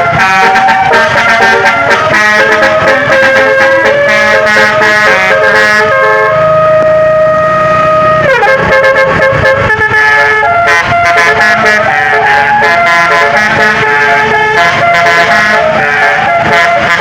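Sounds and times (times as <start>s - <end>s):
bus horn playing a tune: 0.0s - 17.0s.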